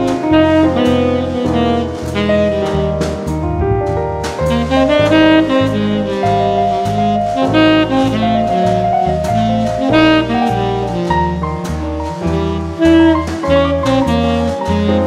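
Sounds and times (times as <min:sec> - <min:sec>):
drums: 0:00.0 - 0:15.0
stepping bass line: 0:00.0 - 0:15.0.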